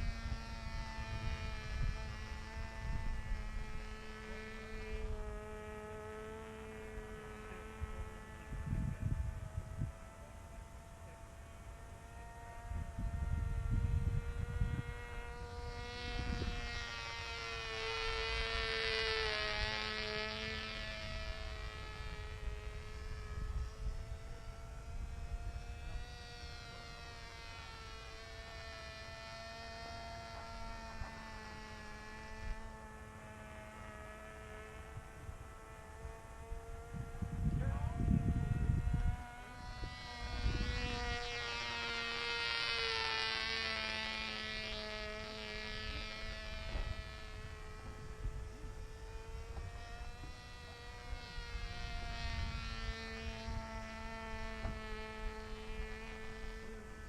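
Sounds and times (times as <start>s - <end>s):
wind gusts on microphone: 0.0s - 5.7s, 6.6s - 10.9s, 12.6s - 26.6s, 34.6s - 56.9s
model airplane motor buzzing: 0.0s - 57.0s.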